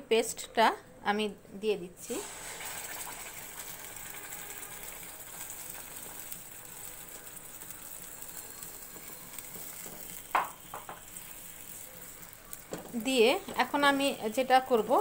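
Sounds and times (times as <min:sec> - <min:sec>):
oil sizzling in a pan: 0:02.0 - 0:15.0.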